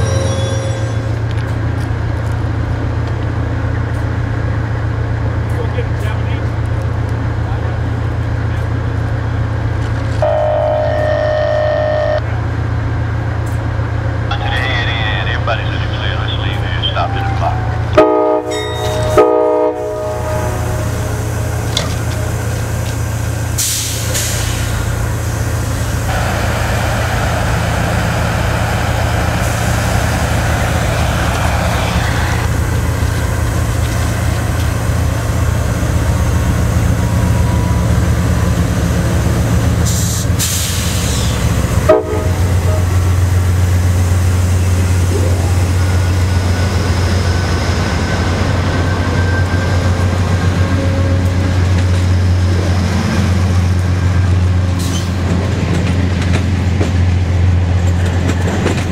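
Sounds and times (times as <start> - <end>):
diesel locomotive droning: 0.0 - 58.9.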